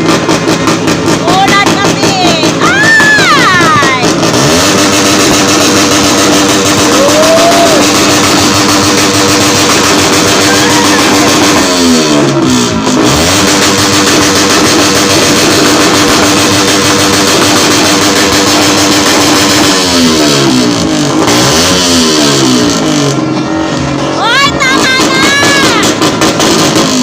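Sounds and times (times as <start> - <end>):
vehicle exhaust idling and revving: 0.0 - 27.0.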